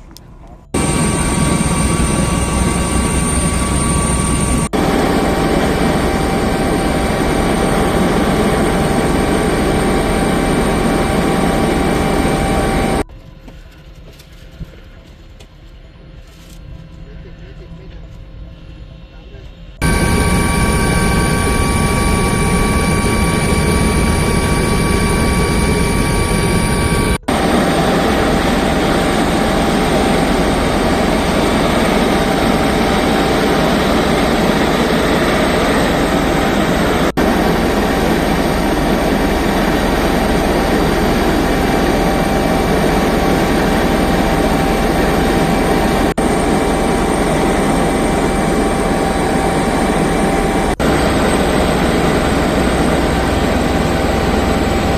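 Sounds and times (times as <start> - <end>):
helicopter engines and rotor: 0.7 - 13.1, 19.8 - 54.9.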